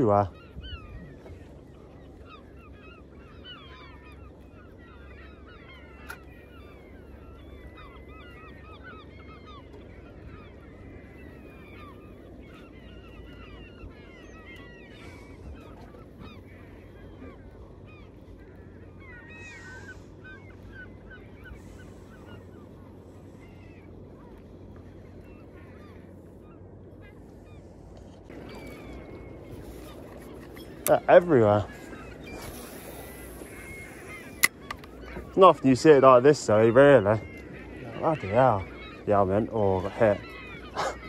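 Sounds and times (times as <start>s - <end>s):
low rumble of water and wind: 0.0s - 41.0s
seagulls squawking: 0.0s - 41.0s.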